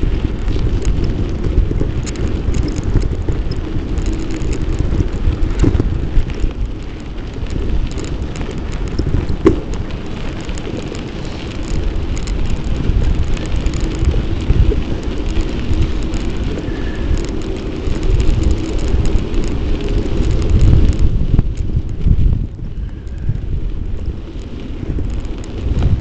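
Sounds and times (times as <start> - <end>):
bicycle rolling on sand path: 0.0 - 26.0
wind buffeting microphone: 0.0 - 26.0.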